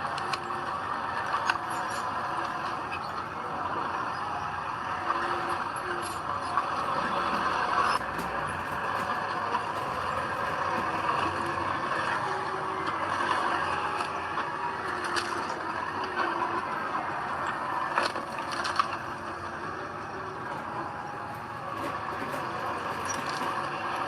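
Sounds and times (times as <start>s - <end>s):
diesel earthmoving machinery running: 0.0s - 24.0s.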